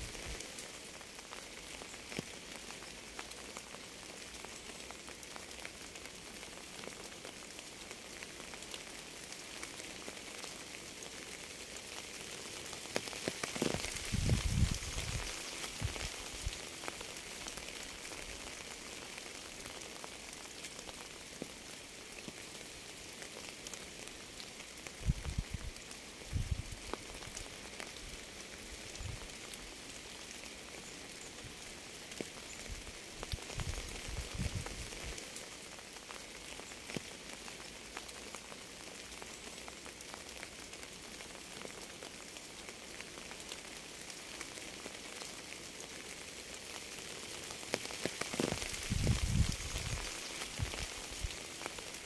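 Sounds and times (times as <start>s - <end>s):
steady rain patter: 0.0s - 52.0s.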